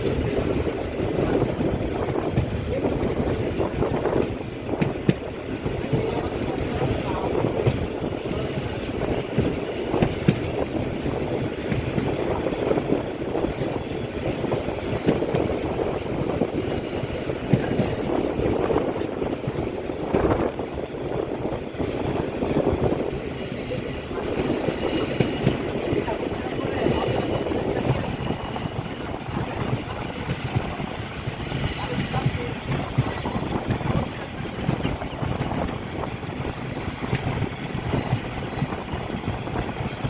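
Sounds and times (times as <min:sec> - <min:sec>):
train wheels clacking: 0:00.0 - 0:40.0
train wheels rumbling on rail: 0:00.0 - 0:40.0.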